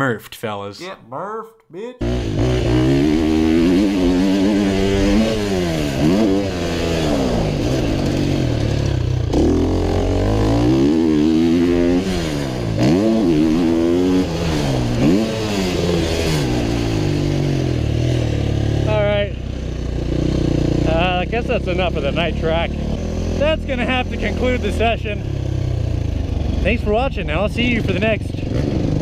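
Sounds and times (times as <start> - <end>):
motocross bike engine revving: 2.0 - 29.0.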